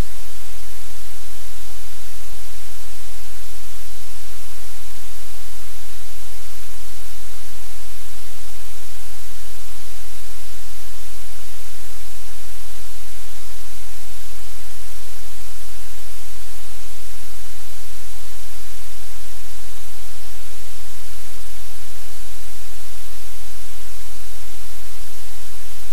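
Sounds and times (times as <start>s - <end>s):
static hiss: 0.0s - 25.9s.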